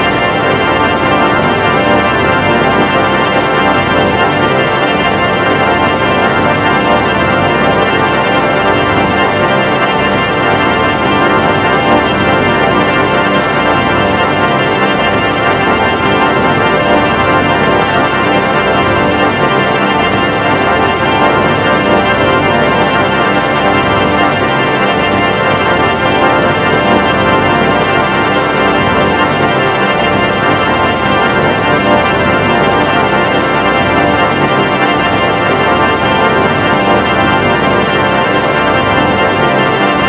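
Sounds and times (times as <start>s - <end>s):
electronic drone: 0.0s - 40.0s.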